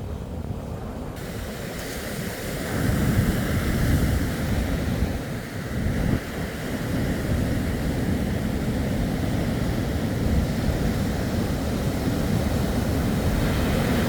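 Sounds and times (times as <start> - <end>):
sea surf: 0.0 - 14.0
wind buffeting microphone: 0.0 - 14.0.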